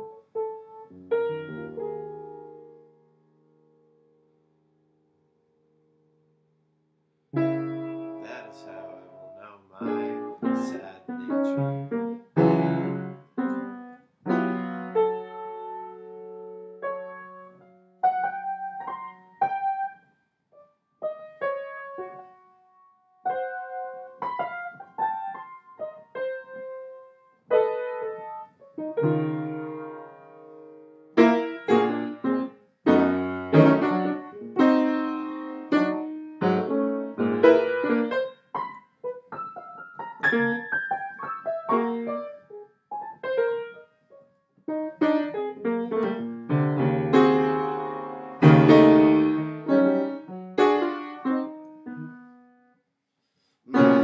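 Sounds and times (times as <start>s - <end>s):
piano playing: 0.0s - 4.3s, 7.3s - 20.0s, 21.0s - 44.0s, 44.7s - 52.7s, 53.7s - 54.0s.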